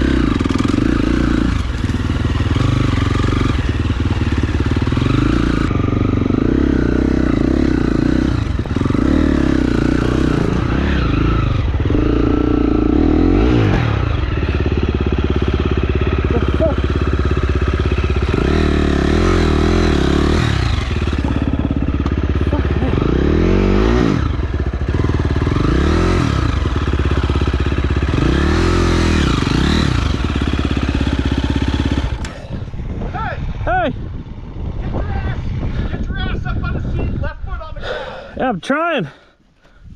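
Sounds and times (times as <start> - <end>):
dirt bike engine revving: 0.0 - 32.5.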